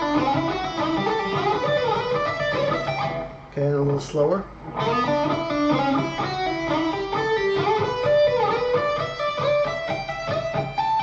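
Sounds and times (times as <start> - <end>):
clean electric guitar lead: 0.0 - 11.0.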